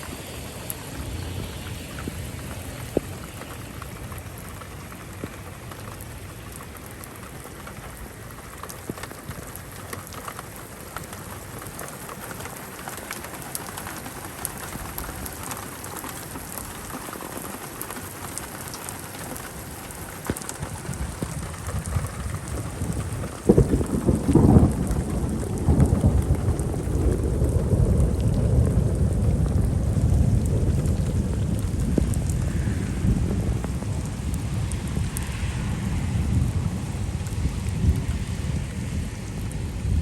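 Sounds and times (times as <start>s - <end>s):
steady rain: 0.0s - 40.0s
thunder clap and rumble: 0.0s - 40.0s.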